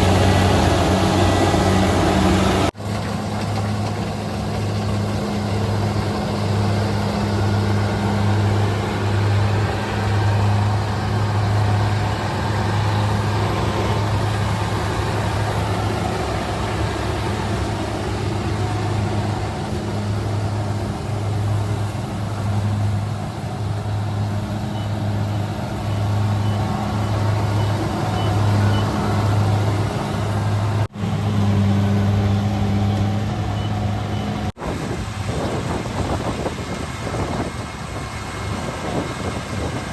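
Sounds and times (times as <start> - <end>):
combine harvester diesel drone: 0.0 - 39.9
continuous mechanical rush: 0.0 - 39.9.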